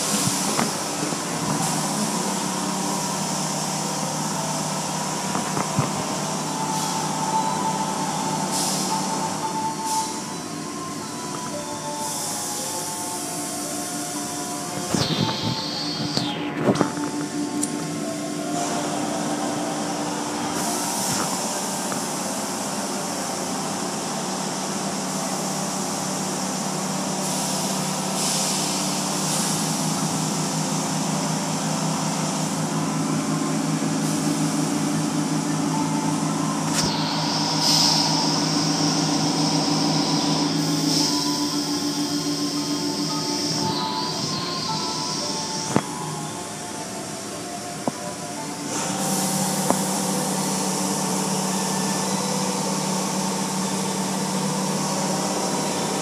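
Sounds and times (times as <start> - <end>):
car wash machinery: 0.0 - 56.0.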